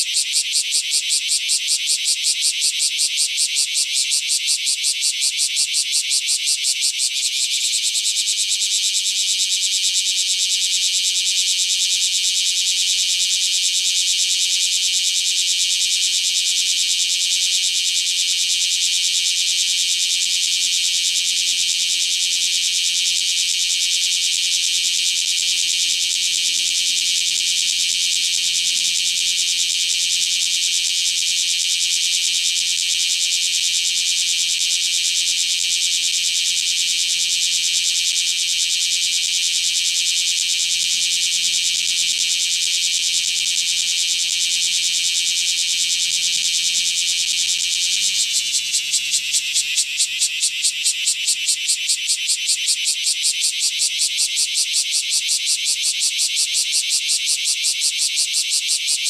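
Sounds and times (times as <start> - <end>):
cicada buzzing: 0.0 - 59.0.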